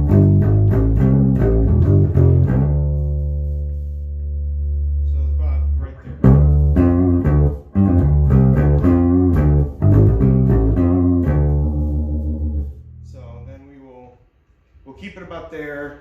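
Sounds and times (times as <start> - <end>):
electric bass plucked notes: 0.0 - 13.6.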